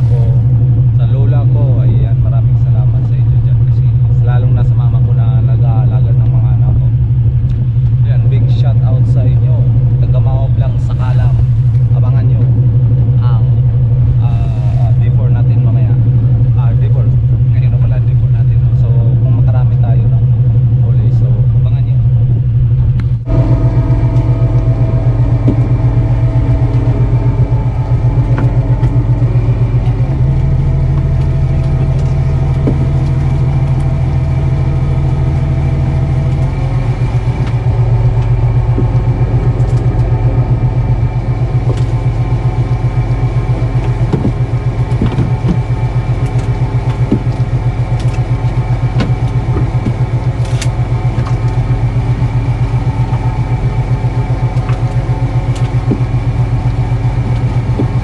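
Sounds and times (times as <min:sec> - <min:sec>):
boat engine humming and throbbing: 0:00.0 - 0:58.0.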